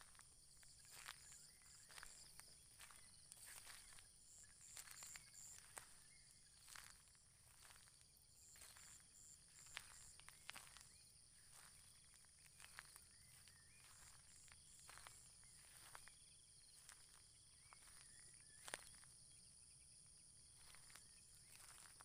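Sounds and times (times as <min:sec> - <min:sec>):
insect chorus with pulsing trill: 0:00.0 - 0:22.0.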